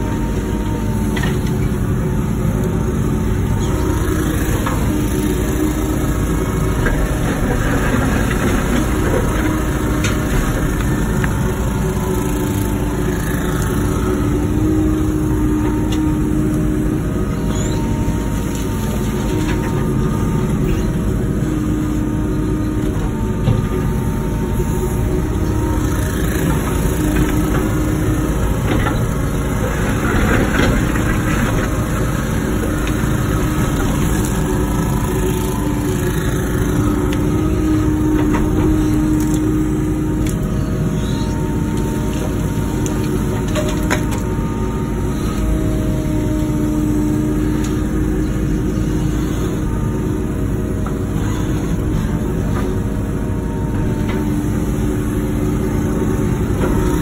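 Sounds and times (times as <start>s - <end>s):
engine clatter: 0.0s - 49.9s
excavator diesel engine running: 0.0s - 57.0s.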